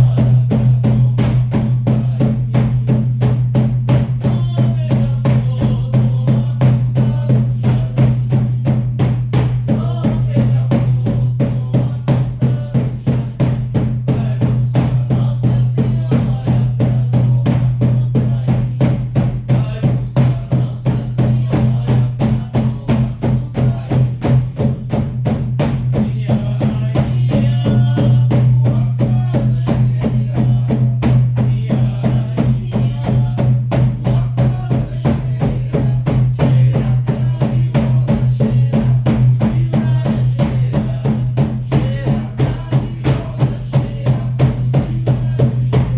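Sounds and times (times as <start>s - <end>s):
frame drums beaten fast: 0.0s - 45.9s.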